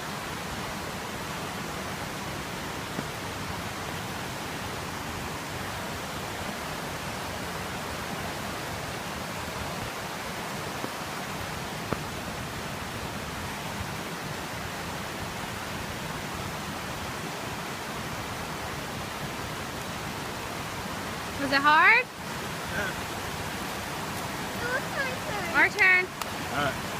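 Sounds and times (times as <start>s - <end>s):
rushing falling water: 0.0s - 26.9s.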